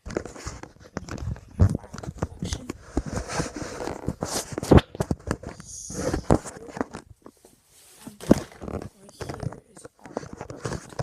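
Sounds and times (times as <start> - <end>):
objects being handled: 0.0 - 11.0.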